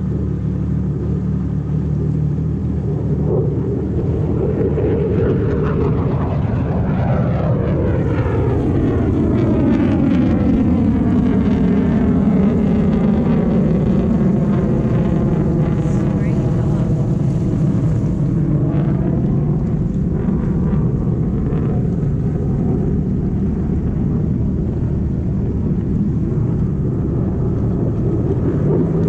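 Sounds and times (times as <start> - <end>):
jet ski engine running: 0.0 - 29.0.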